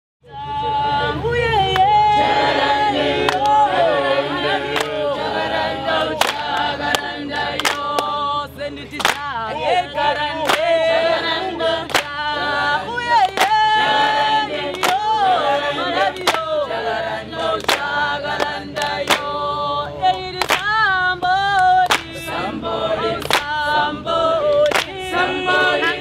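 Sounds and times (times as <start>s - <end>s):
choir singing a cappella: 0.2s - 26.0s.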